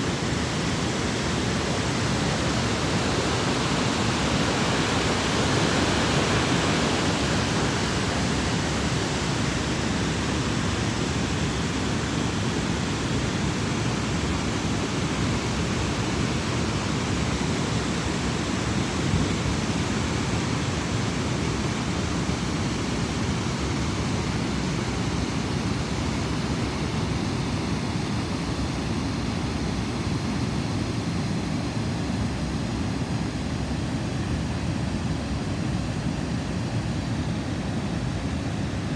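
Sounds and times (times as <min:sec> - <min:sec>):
river water rushing over rapids: 0:00.0 - 0:38.9.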